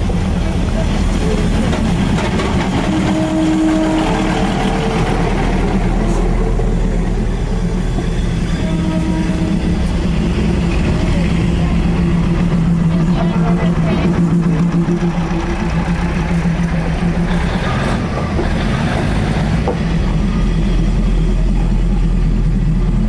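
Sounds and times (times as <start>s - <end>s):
train engine running: 0.0s - 23.0s.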